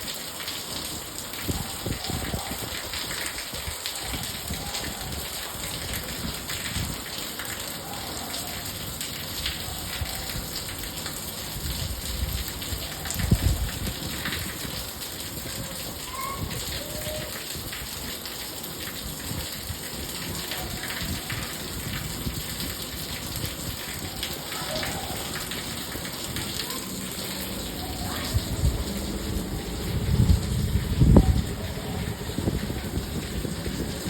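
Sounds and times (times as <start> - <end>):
light rain falling: 0.0 - 34.0.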